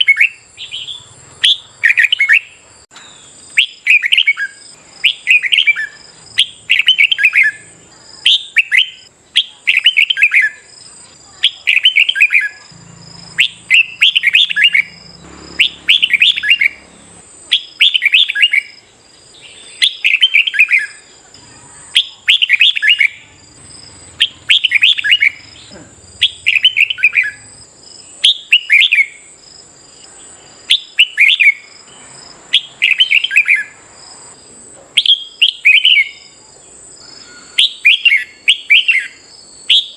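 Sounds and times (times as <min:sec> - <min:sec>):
bulbul singing: 0:00.0 - 0:39.9
faint high whine: 0:00.0 - 0:39.9.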